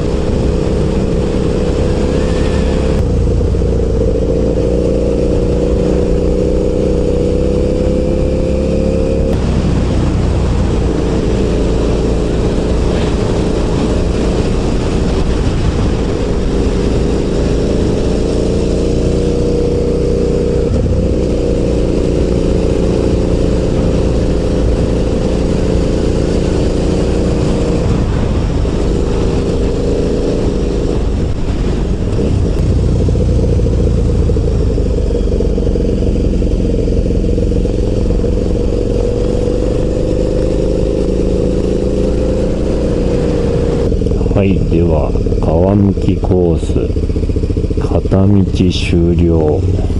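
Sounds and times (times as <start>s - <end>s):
wind noise: 0.0s - 48.7s
motorcycle engine running: 0.0s - 49.9s.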